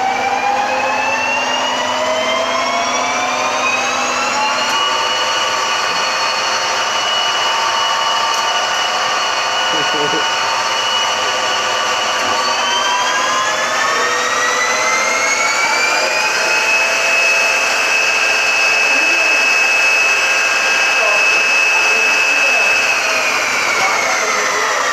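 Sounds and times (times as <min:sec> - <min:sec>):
lathe motor whining: 0:00.0 - 0:24.9.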